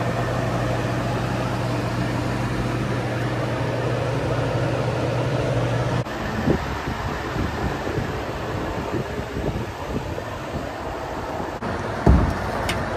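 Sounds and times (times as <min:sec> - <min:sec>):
fan air rushing: 0:00.0 - 0:12.9
fan motor hum: 0:00.0 - 0:12.9.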